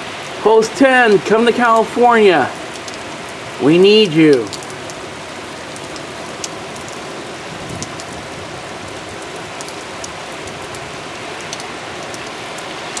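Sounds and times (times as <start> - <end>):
heavy rain pouring: 0.0 - 13.0
sharp ticks of raindrops: 0.0 - 13.0.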